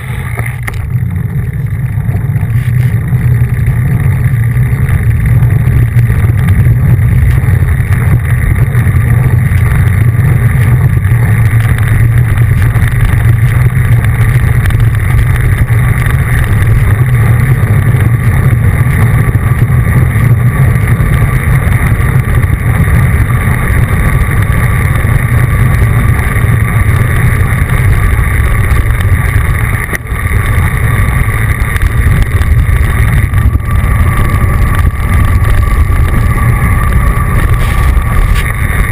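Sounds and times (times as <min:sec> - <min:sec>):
road and tyre noise: 0:00.0 - 0:38.9
wind rumble on microphone: 0:00.0 - 0:38.9.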